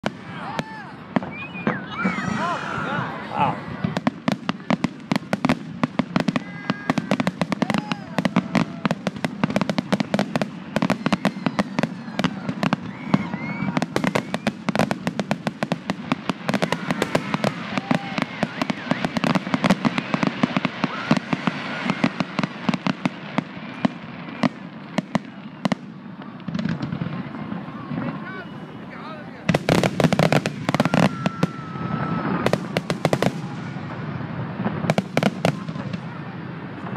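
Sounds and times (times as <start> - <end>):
fireworks bursting: 0.0 - 36.9.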